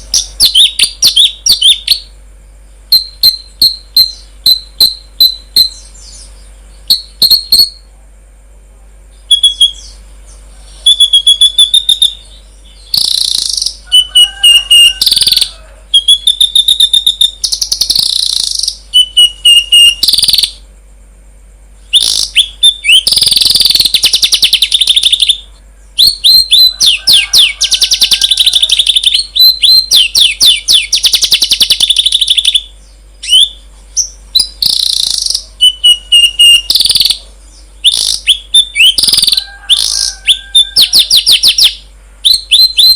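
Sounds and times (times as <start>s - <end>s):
songbird trills and chattering: 0.0s - 7.9s, 9.1s - 20.6s, 21.8s - 42.9s.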